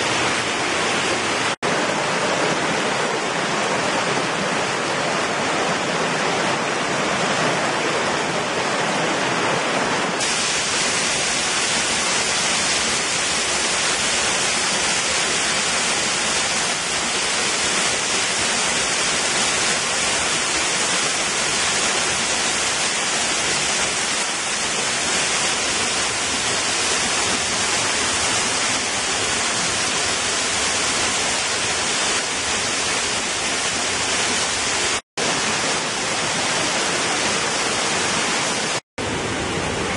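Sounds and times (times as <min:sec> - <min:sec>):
small waterfall pouring: 0:00.0 - 0:38.8
stream rushing over rocks: 0:00.0 - 0:39.9.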